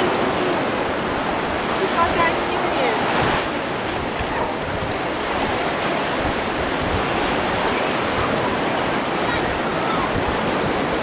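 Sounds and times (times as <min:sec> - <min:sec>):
small waves lapping at shore: 0:00.0 - 0:11.0.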